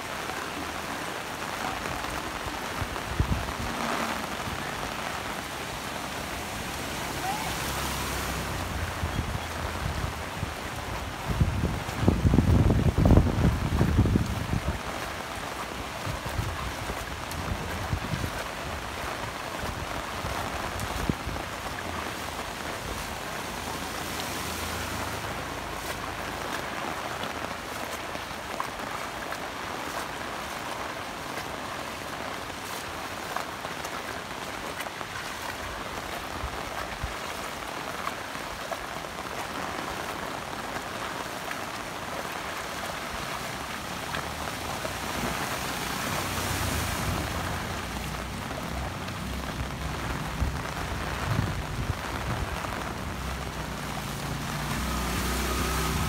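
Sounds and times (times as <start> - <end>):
steady rain on wet street: 0.0 - 56.0.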